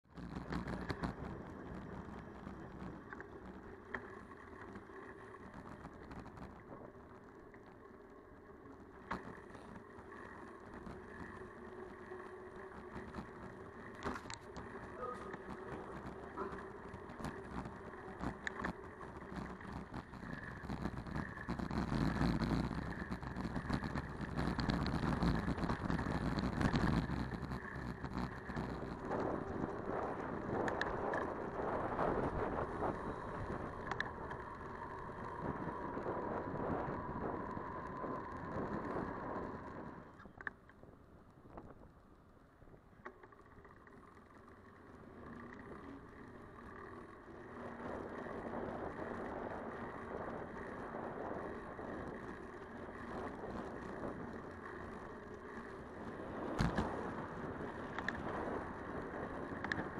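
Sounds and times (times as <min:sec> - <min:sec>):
bicycle rolling hiss: 0:00.2 - 0:40.3, 0:43.3 - 0:59.9
bicycle clicks and knocks: 0:00.2 - 0:40.8, 0:43.0 - 0:59.9.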